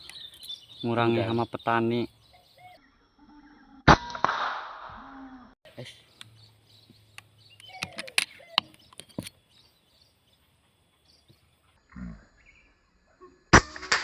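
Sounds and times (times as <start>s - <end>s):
small birds chirping: 0.0s - 3.8s, 5.7s - 13.5s.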